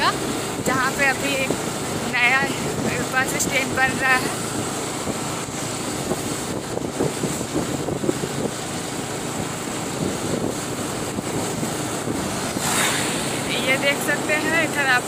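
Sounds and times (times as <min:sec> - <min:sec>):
motorcycle engine: 0:00.0 - 0:15.0
wind noise on microphone: 0:00.0 - 0:15.0.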